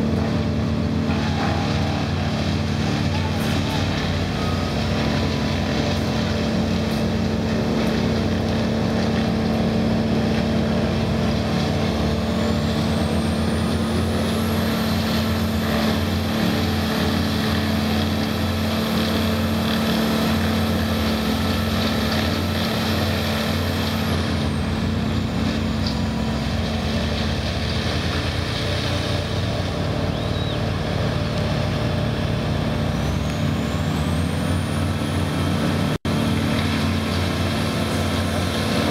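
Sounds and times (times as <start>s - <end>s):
heavy equipment engine running: 0.0s - 38.9s.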